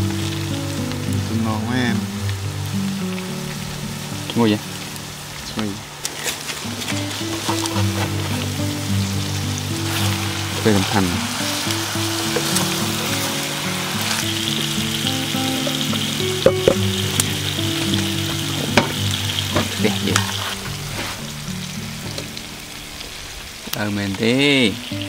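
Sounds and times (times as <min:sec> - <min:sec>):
background music: 0:00.0 - 0:05.9, 0:06.6 - 0:23.6
food sizzling in a pan: 0:00.0 - 0:25.0.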